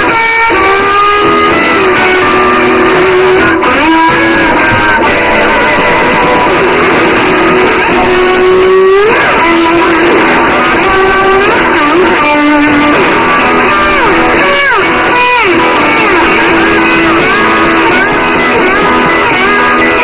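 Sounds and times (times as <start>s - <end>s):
electric guitar with sliding notes: 0.0s - 20.0s.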